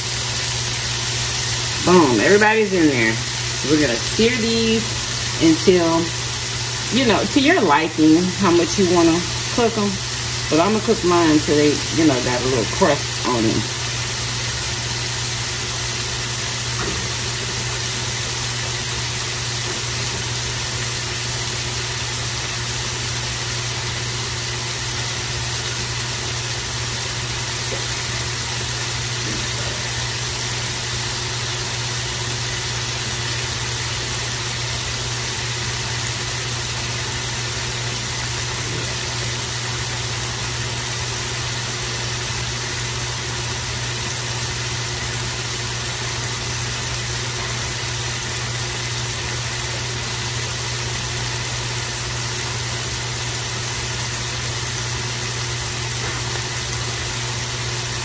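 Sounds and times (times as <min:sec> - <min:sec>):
meat patties sizzling in oil: 0:00.0 - 0:58.0.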